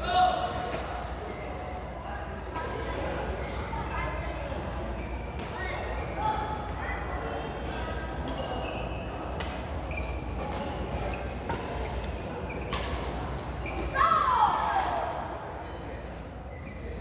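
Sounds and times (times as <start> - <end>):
murmur of echoing voices: 0.0 - 17.0.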